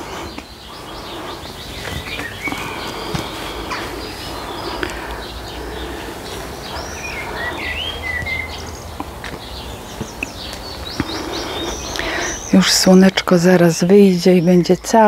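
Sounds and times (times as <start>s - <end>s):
steady low rumble: 0.0s - 12.7s
songbirds singing: 0.0s - 15.0s.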